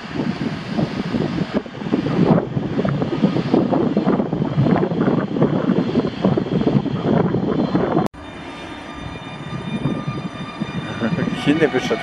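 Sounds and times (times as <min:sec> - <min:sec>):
wind buffeting the microphone: 0:00.0 - 0:08.1, 0:08.9 - 0:12.0
electric train arriving: 0:00.0 - 0:12.0.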